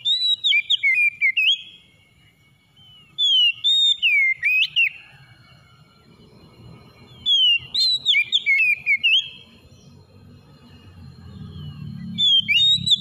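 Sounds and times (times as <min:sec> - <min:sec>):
bird singing whistled phrases: 0:00.0 - 0:05.2, 0:07.0 - 0:10.0, 0:10.6 - 0:13.0.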